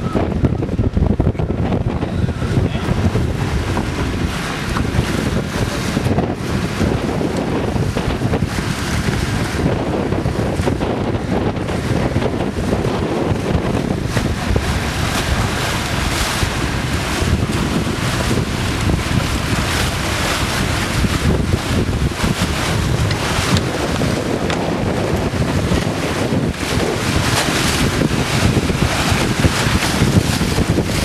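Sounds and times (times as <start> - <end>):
sea water washing against hulls: 0.0 - 31.0
wind buffeting microphone: 0.0 - 31.0.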